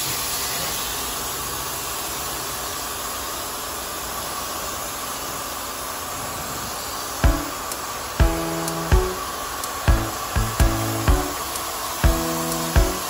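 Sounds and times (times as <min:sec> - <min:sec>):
pressure washer jet hissing: 0:00.0 - 0:13.0.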